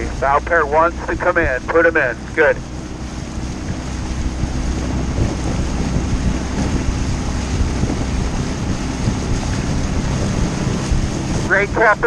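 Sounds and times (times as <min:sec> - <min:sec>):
outboard motor running: 0:00.0 - 0:12.0
wind buffeting microphone: 0:00.0 - 0:12.0.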